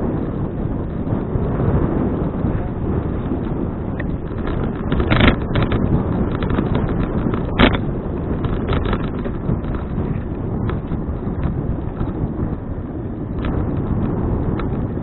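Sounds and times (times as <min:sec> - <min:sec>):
bike and camera rattling: 0:00.0 - 0:15.0
wind buffeting microphone: 0:00.0 - 0:15.0.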